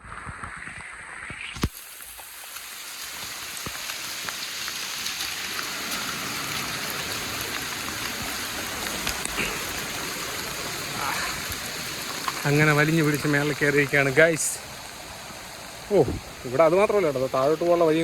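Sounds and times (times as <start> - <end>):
rain falling: 0.1 - 18.0.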